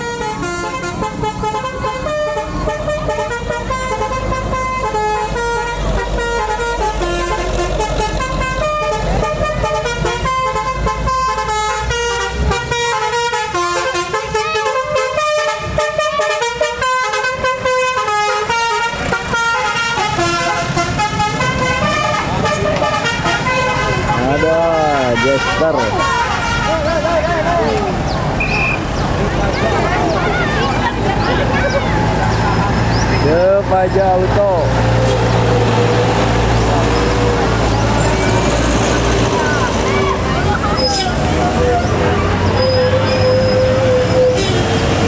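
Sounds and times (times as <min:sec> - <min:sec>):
bus horn playing a tune: 0:00.0 - 0:32.9, 0:34.6 - 0:45.0
bus engine rumbling: 0:00.0 - 0:45.0.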